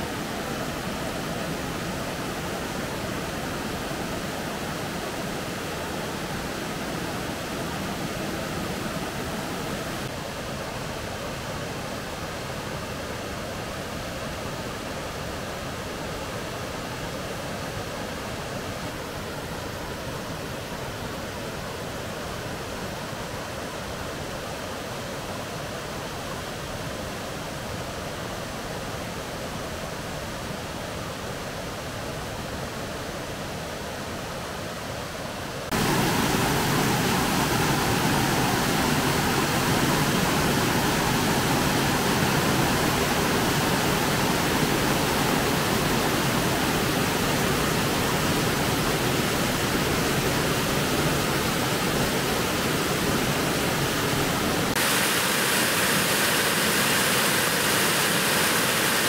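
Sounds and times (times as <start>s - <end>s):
rush of flowing water: 0.0s - 59.0s.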